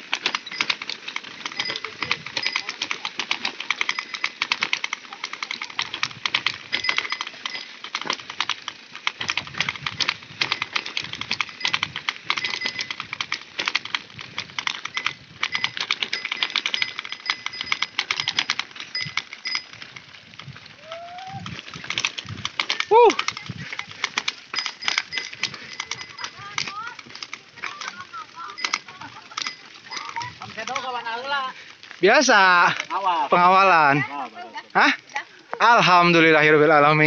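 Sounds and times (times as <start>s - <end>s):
bike rattling over gravel: 0.0s - 37.0s.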